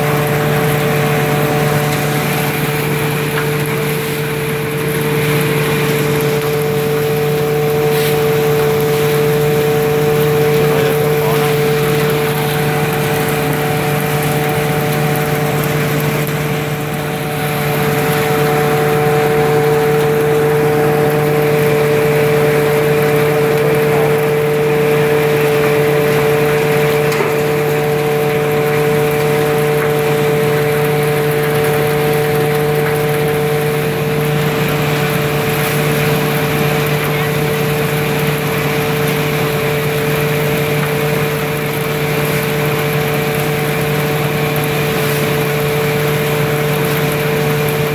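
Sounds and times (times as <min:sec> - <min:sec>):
threshing machine droning: 0:00.0 - 0:47.9.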